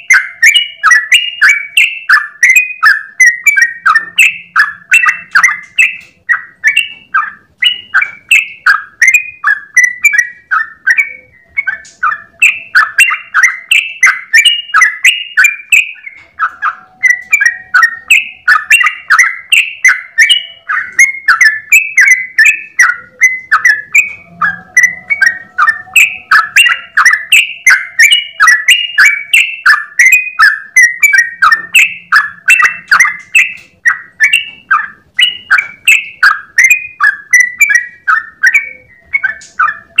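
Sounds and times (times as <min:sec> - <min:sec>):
bulbul singing chirping notes: 0:00.0 - 0:40.0.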